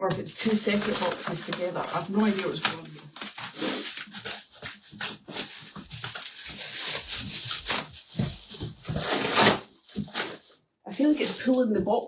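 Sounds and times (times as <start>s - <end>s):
cardboard box tape tearing: 0.6s - 10.5s.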